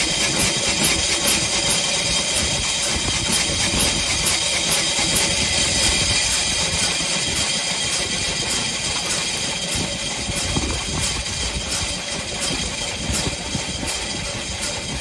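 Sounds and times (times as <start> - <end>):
single-cylinder engine idling: 0.0 - 15.0.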